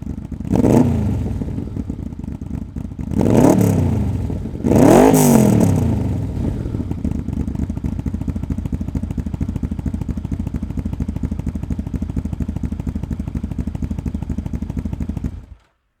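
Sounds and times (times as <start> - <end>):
motorcycle engine idling: 0.0 - 15.7.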